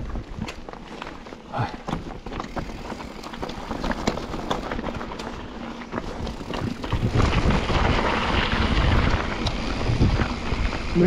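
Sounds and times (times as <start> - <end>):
bike rattling: 0.0 - 11.0
tyres crunching on loose stones: 0.0 - 11.0
wind rumbling on microphone: 0.0 - 11.0.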